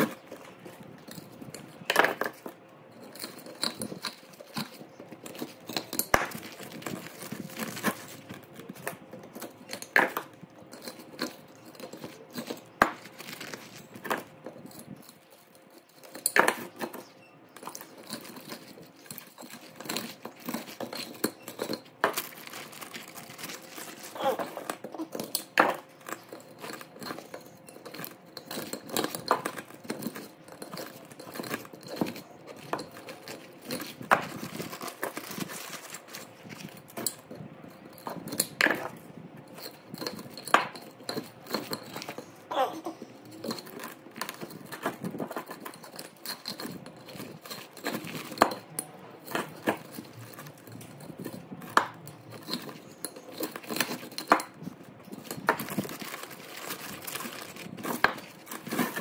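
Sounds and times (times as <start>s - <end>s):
metallic clicks and clinks: 0.0s - 59.0s.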